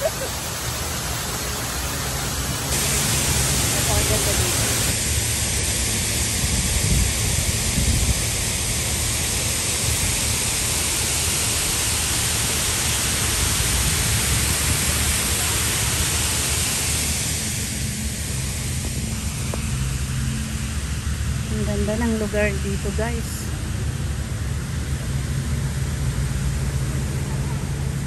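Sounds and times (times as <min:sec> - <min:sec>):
waterfall rushing: 0:00.0 - 0:06.3, 0:07.3 - 0:28.0.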